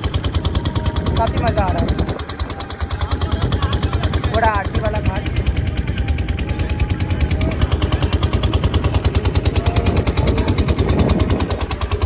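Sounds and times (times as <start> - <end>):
motorboat engine thumping: 0.0 - 12.0.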